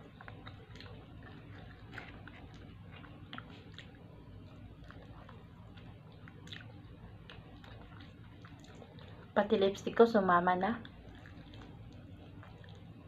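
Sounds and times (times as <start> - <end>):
faint chewing: 0.0 - 10.0, 10.6 - 13.0
steady low hum: 0.0 - 13.0.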